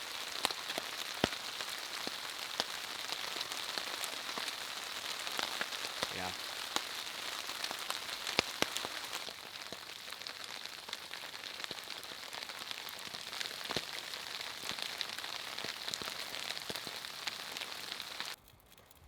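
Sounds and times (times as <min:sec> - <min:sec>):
rain hiss: 0:00.0 - 0:18.4
raindrops ticking: 0:00.0 - 0:19.0.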